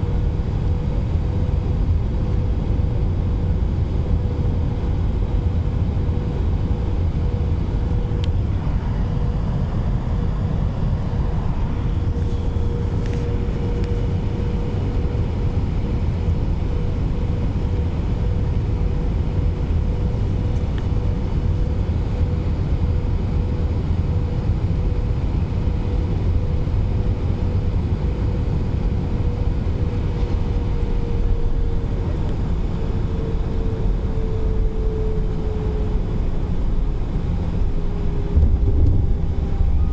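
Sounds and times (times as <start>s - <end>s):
airplane cabin engine rush: 0.0s - 39.9s
steady hum: 0.0s - 39.9s.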